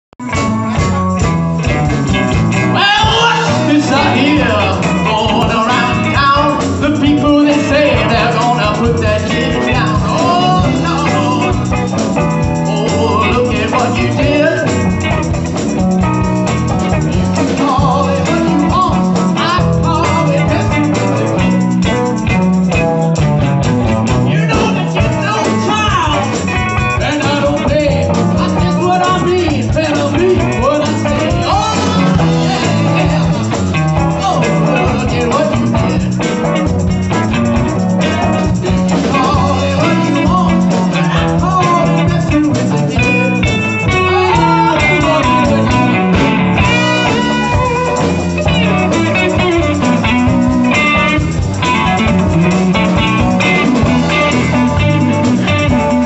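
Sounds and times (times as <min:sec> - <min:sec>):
live blues band playing: 0:00.2 - 0:56.0.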